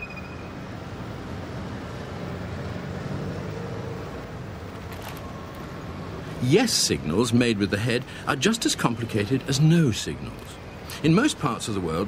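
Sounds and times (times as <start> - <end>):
low rumble of motor traffic: 0.0 - 12.0.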